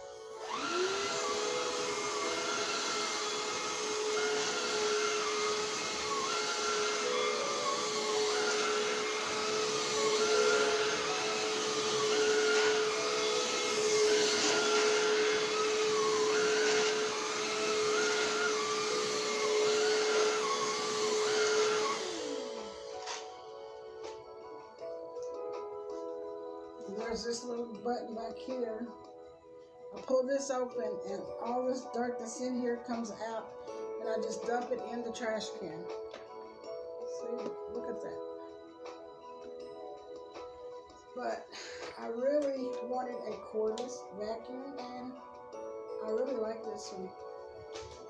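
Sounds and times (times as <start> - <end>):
vacuum cleaner motor whine: 0.0 - 48.0.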